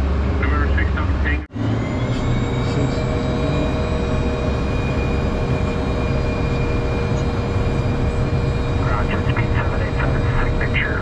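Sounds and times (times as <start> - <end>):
jet engines rumble and whine: 0.0 - 11.0.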